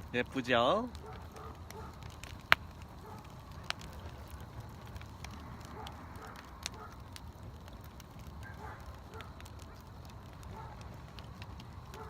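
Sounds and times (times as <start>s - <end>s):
burning wood popping: 0.0s - 12.0s
campfire flames rushing: 0.0s - 12.0s.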